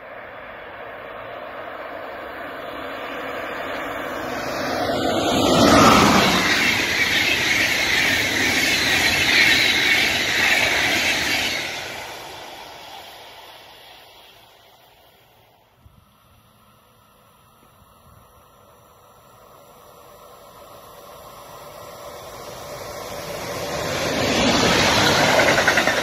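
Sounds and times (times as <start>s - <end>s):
passenger train passing: 0.0s - 26.0s.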